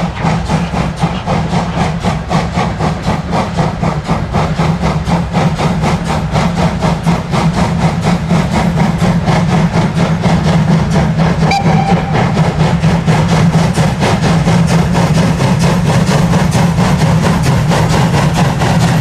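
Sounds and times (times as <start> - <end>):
low train rumble: 0.0 - 19.0
steam locomotive exhaust beats: 0.0 - 19.0.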